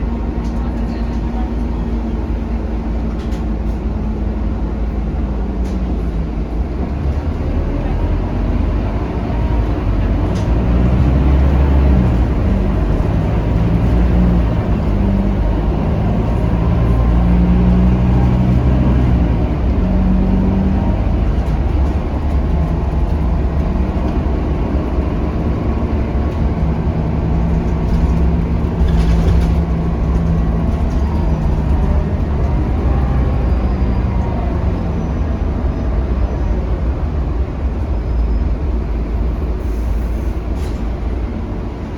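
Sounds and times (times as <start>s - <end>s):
bus diesel engine humming: 0.0s - 41.9s
road rumble: 0.0s - 41.9s.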